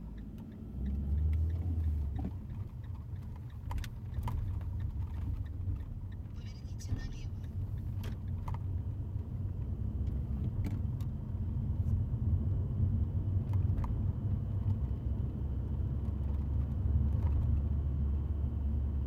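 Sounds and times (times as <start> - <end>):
car engine low rumble: 0.0 - 19.0
road noise: 0.0 - 19.0.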